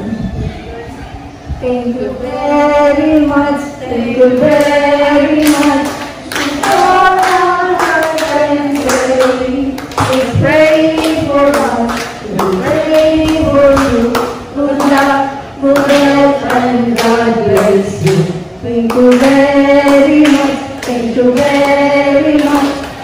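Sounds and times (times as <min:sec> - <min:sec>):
woman singing into microphone: 0:01.6 - 0:22.9.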